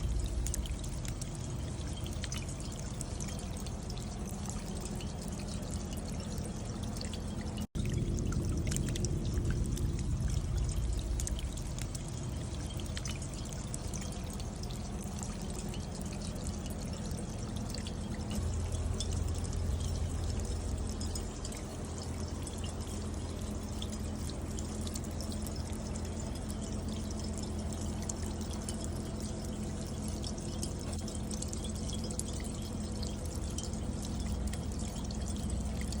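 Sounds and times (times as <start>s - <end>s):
rain water pouring down chain: 0.0s - 36.0s.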